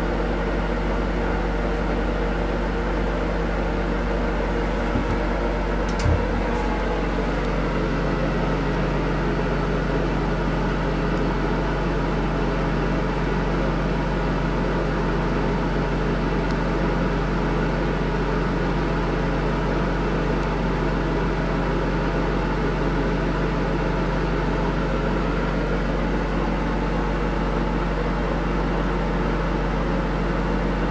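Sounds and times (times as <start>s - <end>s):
mechanical hum with hiss: 0.0s - 30.9s.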